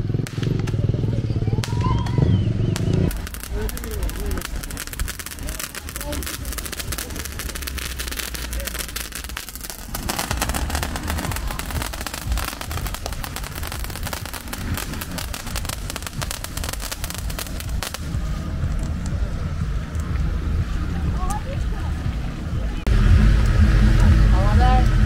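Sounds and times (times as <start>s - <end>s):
firecrackers crackling: 0.0s - 25.0s
steady low rumble: 0.0s - 25.0s.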